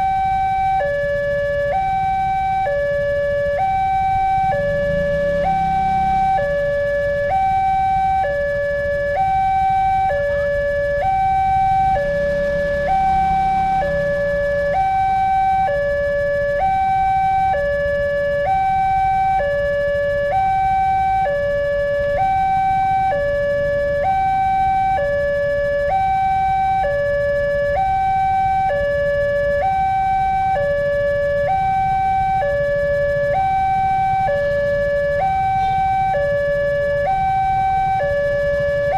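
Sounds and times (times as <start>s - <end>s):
two-tone level crossing siren: 0.0s - 38.9s.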